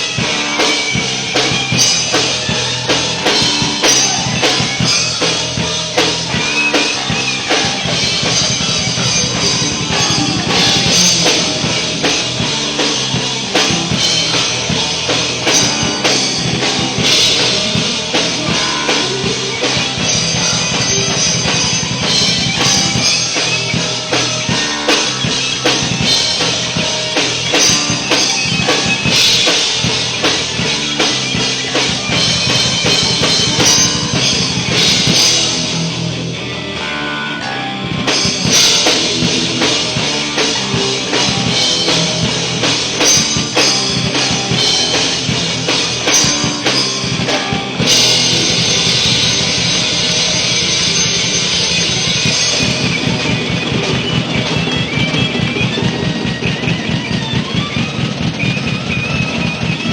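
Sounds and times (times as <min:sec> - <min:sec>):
cymbals: 0:00.0 - 0:36.4, 0:37.4 - 0:59.9
bass drum: 0:00.0 - 0:36.5, 0:37.9 - 0:56.8
rock band playing: 0:00.0 - 0:59.9.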